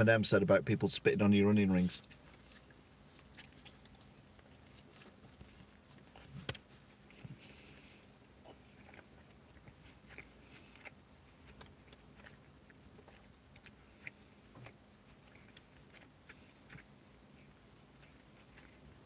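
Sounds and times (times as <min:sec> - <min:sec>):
faint chewing: 0:01.7 - 0:19.0.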